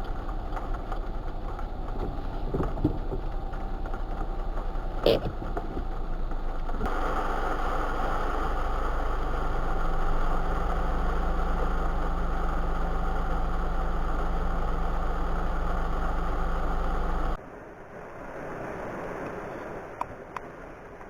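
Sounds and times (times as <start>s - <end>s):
steady low hum: 0.0s - 17.4s
engine and road noise in van: 0.0s - 21.0s.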